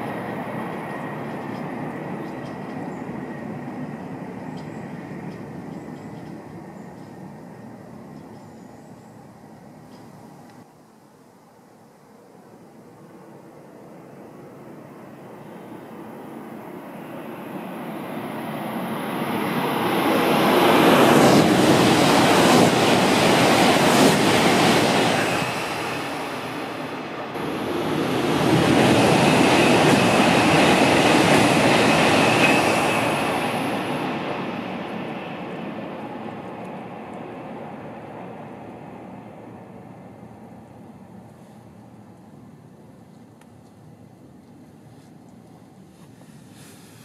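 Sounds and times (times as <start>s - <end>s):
high-speed train passing: 0.0s - 10.7s, 12.0s - 47.0s.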